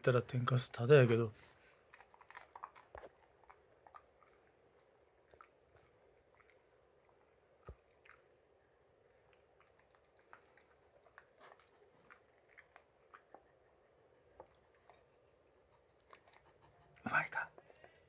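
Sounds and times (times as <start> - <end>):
dog chewing crunchy crumbs: 1.0 - 18.0.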